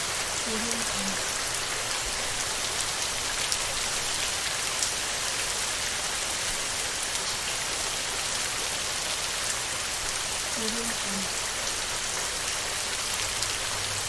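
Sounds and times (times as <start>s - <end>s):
heavy rain on a tin roof: 0.0s - 14.0s.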